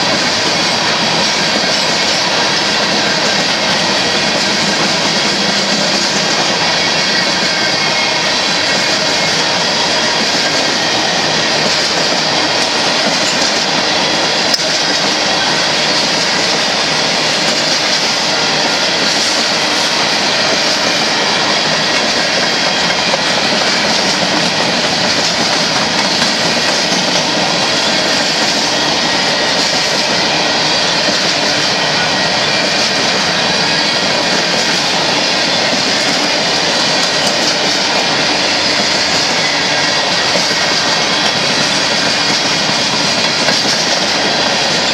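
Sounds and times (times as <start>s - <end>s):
train cars rolling on rails: 0.0s - 44.9s.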